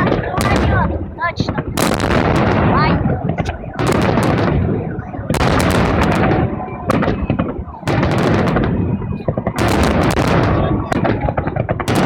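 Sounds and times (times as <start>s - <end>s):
fireworks bangs with crackling: 0.0s - 12.0s.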